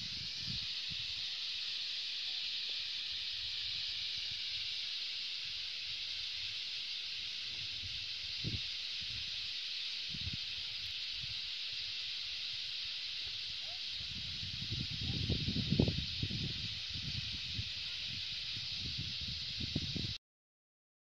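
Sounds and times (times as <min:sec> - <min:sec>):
high shimmering hiss: 0:00.0 - 0:20.2.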